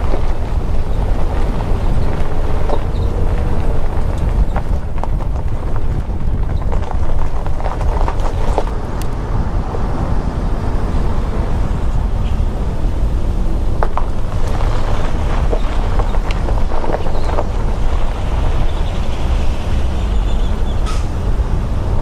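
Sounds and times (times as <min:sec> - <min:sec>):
gravel striking car: 0:00.0 - 0:22.0
tyres rumbling on gravel: 0:00.0 - 0:22.0.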